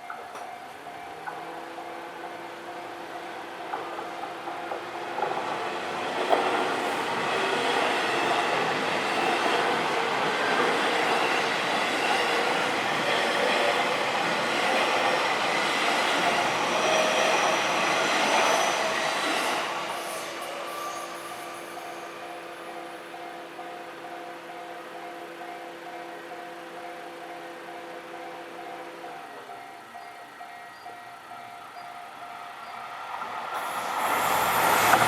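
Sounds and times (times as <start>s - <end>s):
train passing: 0.1s - 35.0s.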